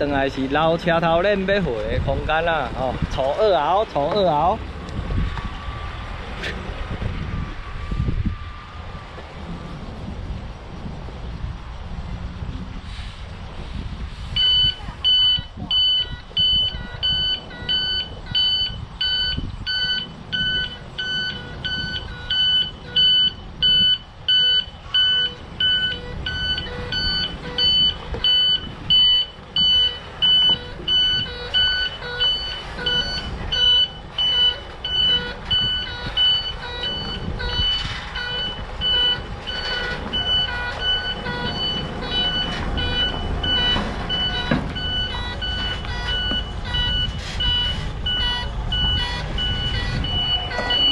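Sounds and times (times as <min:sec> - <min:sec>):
truck reversing alarm beeping: 0:00.0 - 0:10.4, 0:14.2 - 0:50.9
truck engine rumbling: 0:00.0 - 0:50.9.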